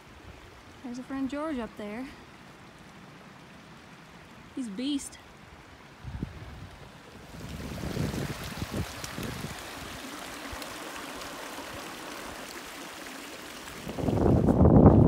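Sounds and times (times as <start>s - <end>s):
creek running over stones: 0.0s - 15.0s.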